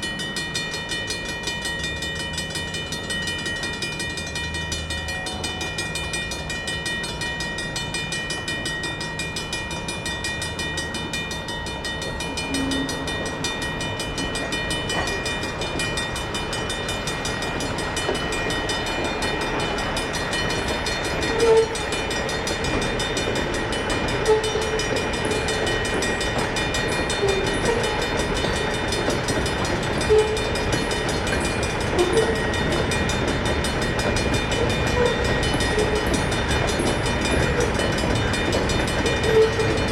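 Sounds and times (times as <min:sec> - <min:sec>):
crossing bell ringing: 0:00.0 - 0:39.9
freight train rumble: 0:00.0 - 0:39.9
rail cars knocking and squealing: 0:00.0 - 0:39.9.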